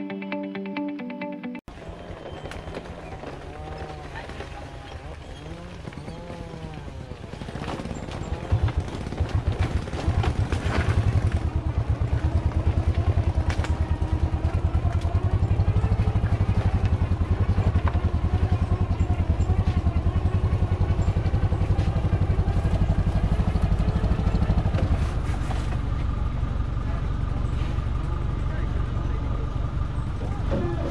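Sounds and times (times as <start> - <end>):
truck engine under load: 1.7 - 30.9.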